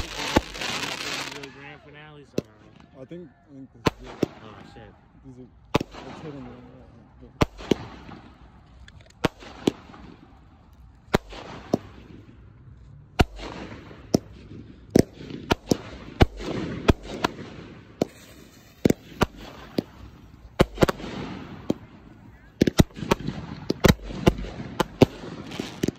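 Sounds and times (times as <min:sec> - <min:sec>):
fireworks bangs: 0:00.0 - 0:03.0, 0:03.8 - 0:25.9.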